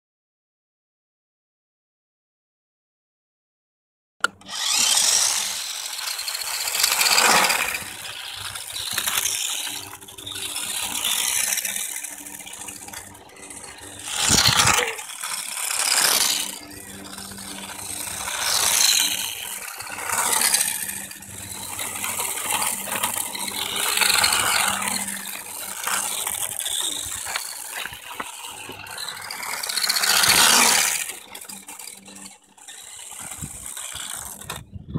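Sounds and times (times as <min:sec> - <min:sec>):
toy car motors whirring: 0:04.2 - 0:34.9
tyres rattling on asphalt: 0:04.4 - 0:34.6.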